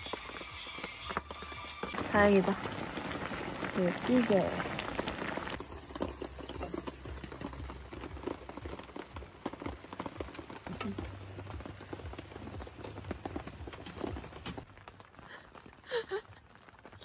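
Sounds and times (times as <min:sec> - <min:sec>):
rain tapping on tent: 0:00.0 - 0:17.0.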